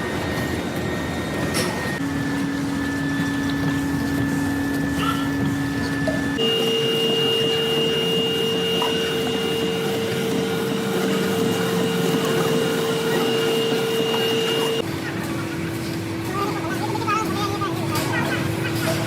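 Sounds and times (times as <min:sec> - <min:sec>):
machine tool whining: 0:00.0 - 0:19.0.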